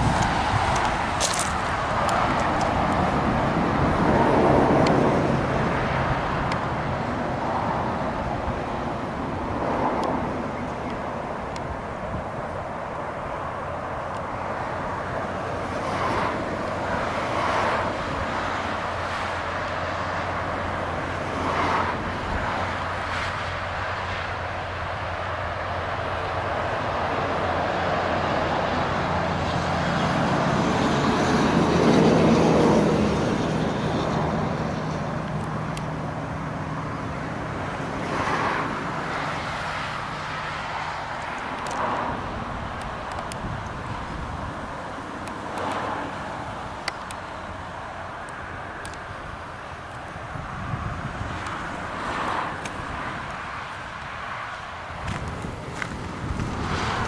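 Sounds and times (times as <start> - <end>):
motor vehicle passing: 0.0 - 57.0
outdoor background noise: 0.0 - 57.0.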